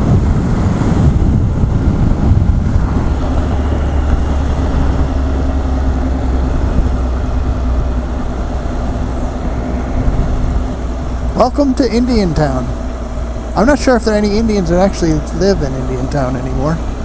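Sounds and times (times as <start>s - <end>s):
motorcycle engine hum: 0.0s - 17.0s
wind rush on microphone: 0.0s - 17.0s.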